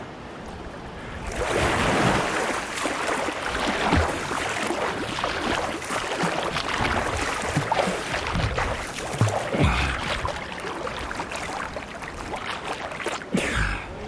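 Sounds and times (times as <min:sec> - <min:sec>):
water splashing from swimming: 0:01.2 - 0:13.8.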